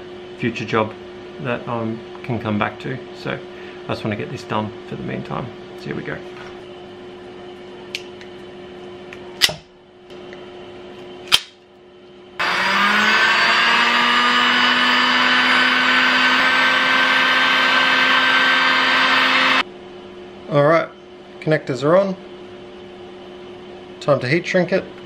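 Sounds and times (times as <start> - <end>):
heat gun fan whine: 0.0 - 25.0.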